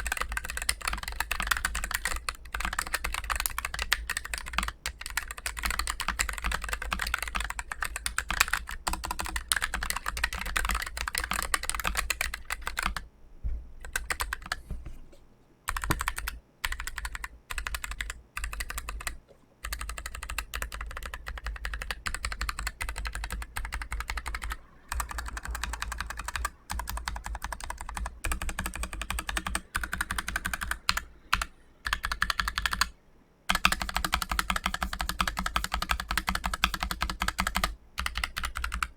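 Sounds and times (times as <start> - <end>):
fast typing on mechanical keyboard: 0.0 - 13.0, 13.8 - 14.6, 15.7 - 32.9, 33.5 - 38.9.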